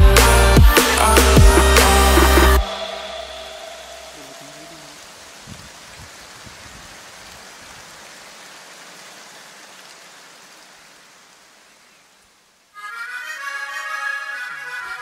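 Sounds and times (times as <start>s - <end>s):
rain-like hiss: 0.2s - 14.9s.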